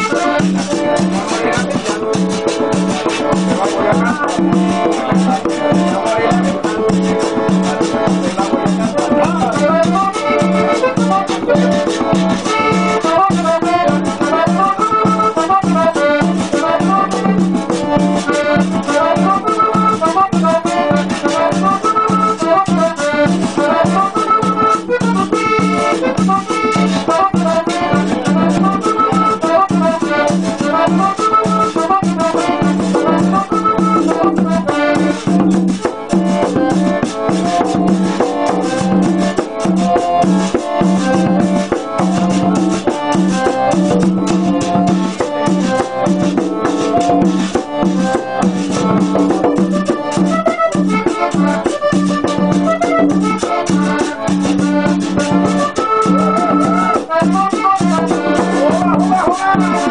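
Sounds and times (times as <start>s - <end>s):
button accordions playing cumbia: 0.0s - 59.9s
conga drum struck by hand: 0.0s - 59.9s.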